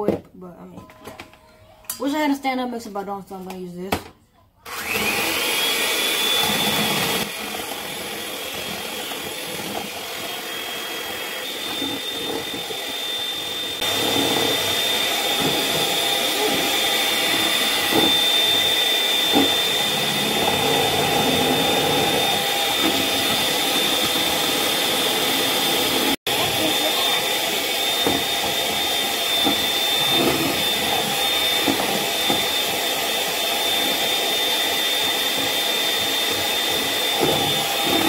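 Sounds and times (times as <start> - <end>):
electric hand mixer whining: 4.6 - 38.0.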